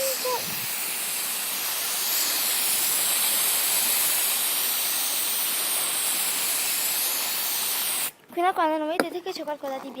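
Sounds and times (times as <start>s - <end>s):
aerosol can spraying: 0.0s - 8.1s.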